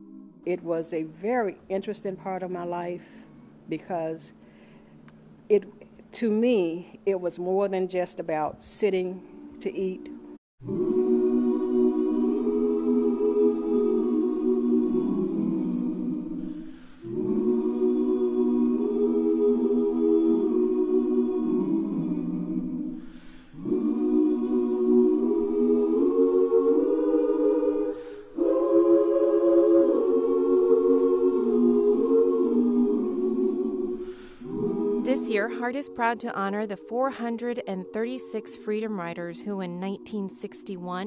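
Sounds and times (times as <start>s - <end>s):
choir singing a cappella: 0.0s - 1.5s, 9.0s - 41.0s.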